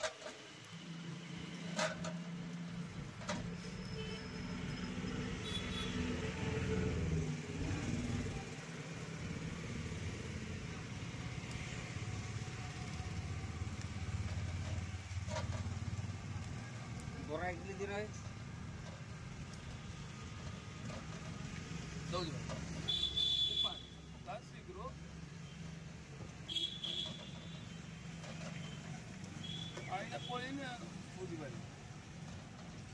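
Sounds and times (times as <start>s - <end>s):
vehicle engines running: 0.0s - 32.9s.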